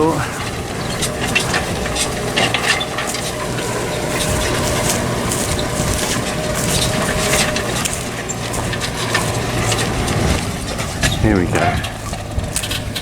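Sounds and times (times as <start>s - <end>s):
crackling close to microphone: 0.0s - 13.0s
tractor engine humming: 0.0s - 13.0s.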